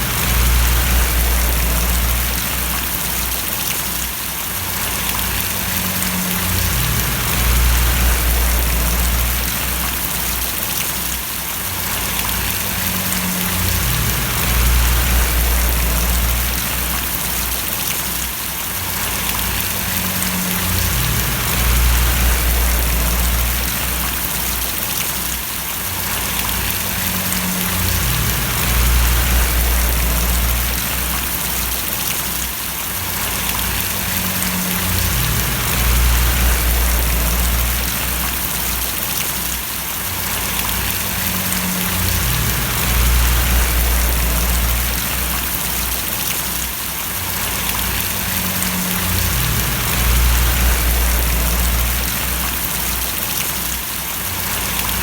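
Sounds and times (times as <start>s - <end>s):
low rumble: 0.0s - 3.6s, 4.8s - 10.5s, 12.0s - 17.8s, 19.0s - 24.8s, 26.2s - 32.1s, 33.2s - 39.0s, 40.5s - 46.4s, 47.4s - 53.2s
rain splashing: 0.0s - 55.0s.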